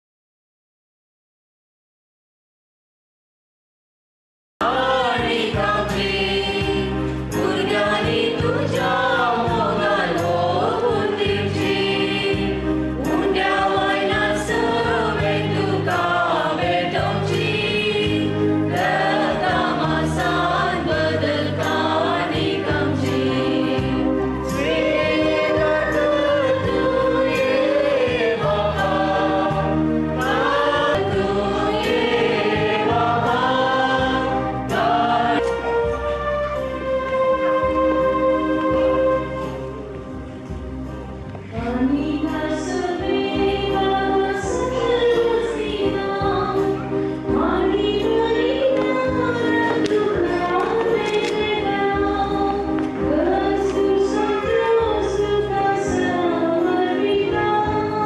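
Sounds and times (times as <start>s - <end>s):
choir singing a hymn: 4.6s - 39.8s, 41.5s - 58.0s
low instrumental accompaniment: 4.6s - 58.0s.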